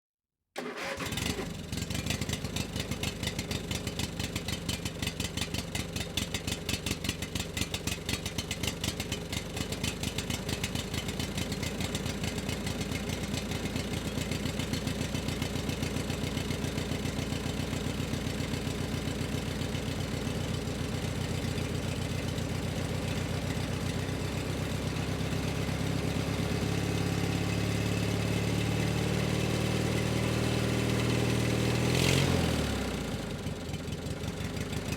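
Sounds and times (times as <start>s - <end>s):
engine starting and running: 0.6s - 34.9s.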